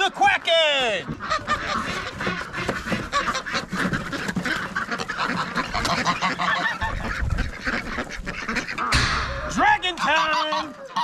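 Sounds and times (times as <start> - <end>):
ducks quacking: 0.0 - 11.0
geese honking: 0.0 - 11.0.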